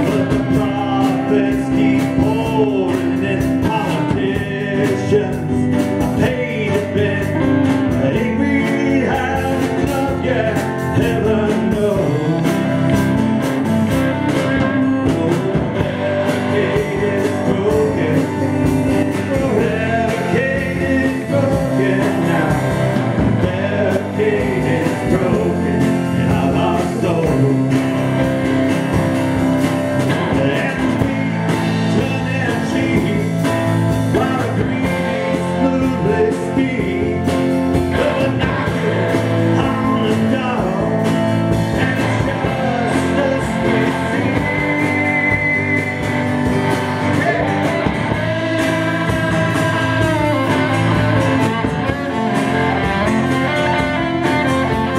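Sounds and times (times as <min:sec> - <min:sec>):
drum kit: 0:00.0 - 0:54.9
electric bass: 0:00.0 - 0:54.9
electric guitar: 0:00.0 - 0:54.9
man singing: 0:00.0 - 0:54.9
rock band playing live: 0:00.0 - 0:54.9
strummed acoustic guitar: 0:00.0 - 0:54.9.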